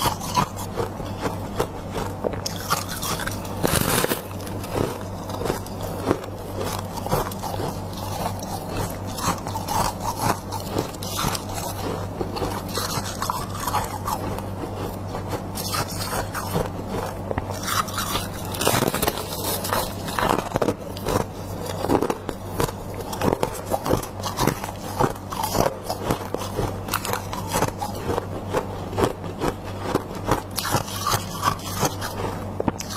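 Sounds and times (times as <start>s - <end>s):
frost being crunched and chewed: 0.0s - 32.9s
steady low hum: 0.0s - 32.9s.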